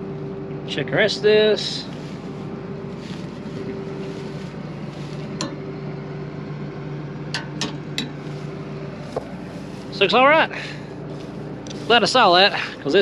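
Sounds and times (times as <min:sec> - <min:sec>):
engine hum: 0:00.0 - 0:13.0.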